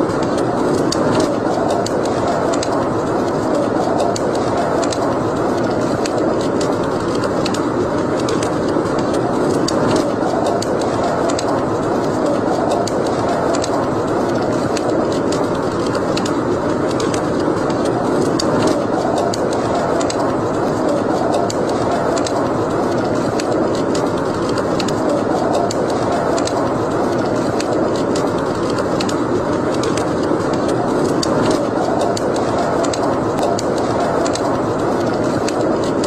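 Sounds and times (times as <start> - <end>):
fireplace fire crackling: 0.0 - 36.0
flames rushing: 0.0 - 36.0.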